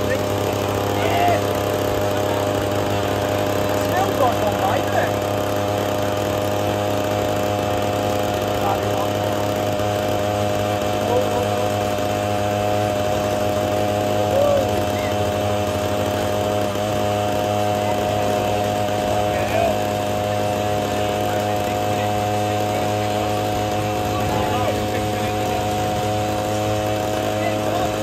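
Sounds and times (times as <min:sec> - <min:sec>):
scooter engine running: 0:00.0 - 0:28.0.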